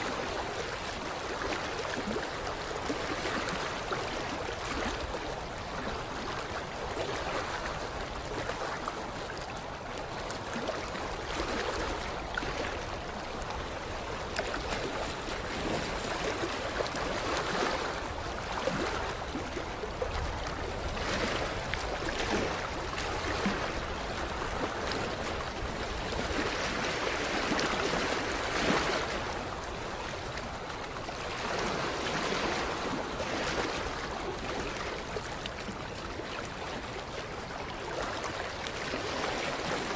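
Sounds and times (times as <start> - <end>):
water lapping against shoreline: 0.0 - 39.9.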